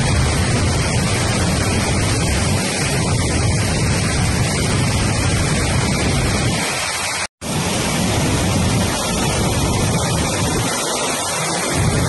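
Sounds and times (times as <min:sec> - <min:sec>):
floodwater rushing and churning: 0:00.0 - 0:12.0.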